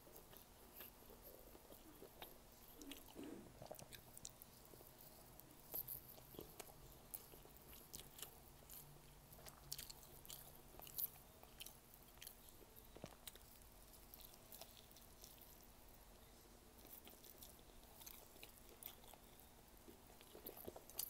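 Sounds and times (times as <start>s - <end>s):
faint close-up chewing: 0.0s - 21.0s.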